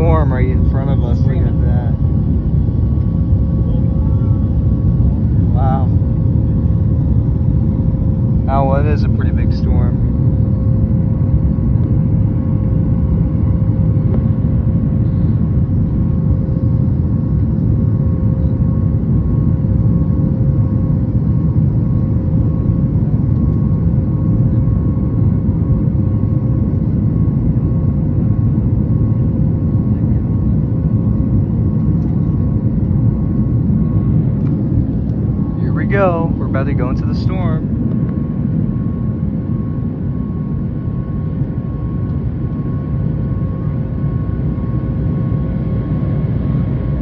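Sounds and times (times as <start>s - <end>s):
airplane cabin roar: 0.0s - 47.0s.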